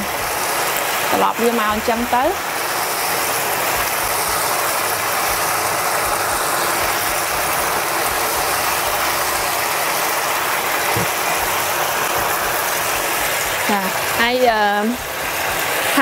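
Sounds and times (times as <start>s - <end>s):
fish sizzling in sauce: 0.0s - 16.0s.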